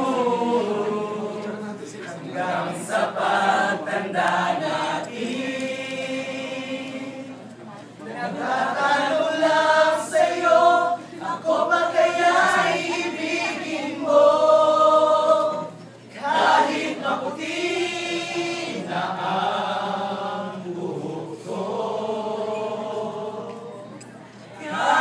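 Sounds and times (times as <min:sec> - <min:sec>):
group of voices singing: 0:00.0 - 0:07.5, 0:08.1 - 0:25.0.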